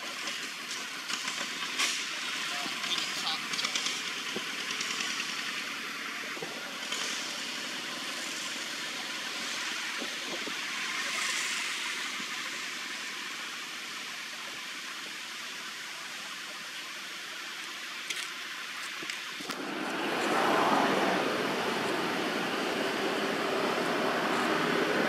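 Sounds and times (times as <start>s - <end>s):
hiss-like outdoor background noise: 0.0s - 25.0s.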